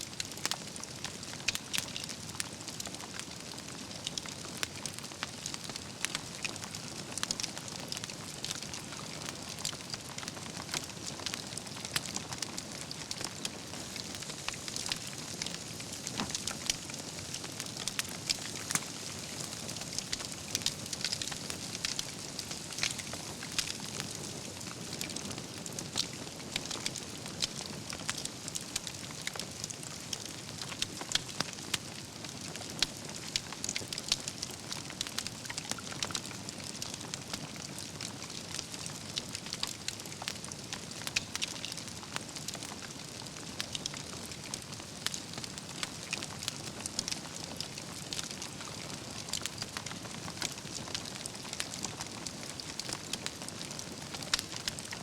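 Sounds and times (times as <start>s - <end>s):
logs crackling and popping: 0.1s - 55.0s
campfire flames hissing: 0.2s - 55.0s.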